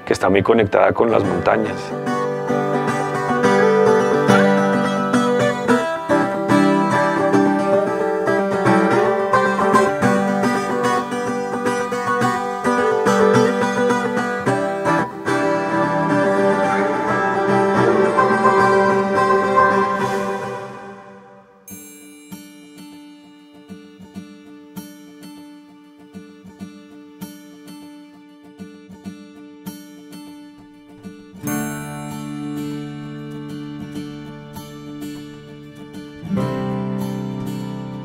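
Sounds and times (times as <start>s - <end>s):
plucked acoustic string melody: 0.0s - 38.0s.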